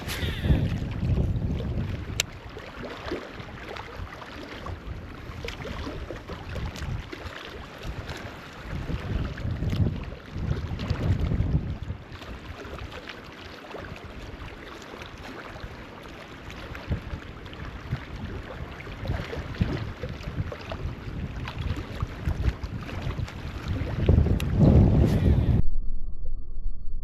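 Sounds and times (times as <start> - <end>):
wind buffeting microphone: 0.0 - 12.7, 16.5 - 25.7.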